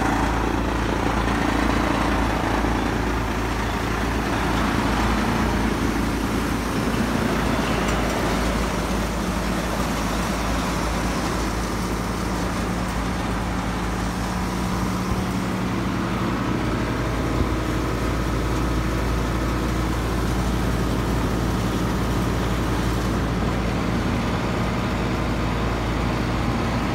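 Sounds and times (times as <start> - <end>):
thresher drum and fan whirring: 0.0 - 26.9
tractor diesel engine under load: 0.0 - 26.9.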